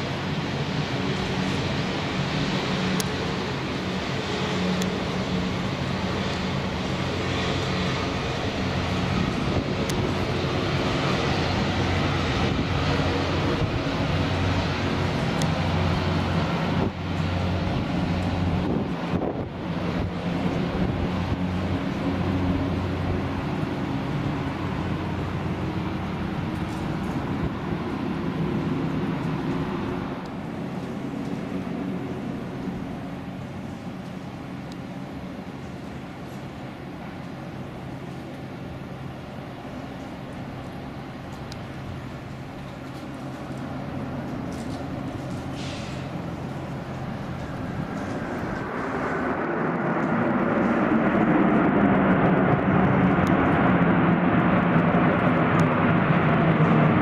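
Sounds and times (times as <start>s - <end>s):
turboprop engines running: 0.0s - 57.0s.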